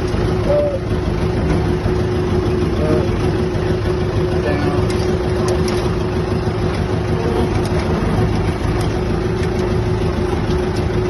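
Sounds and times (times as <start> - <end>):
diesel engine running: 0.0 - 11.0
steady humming tone: 0.0 - 11.0.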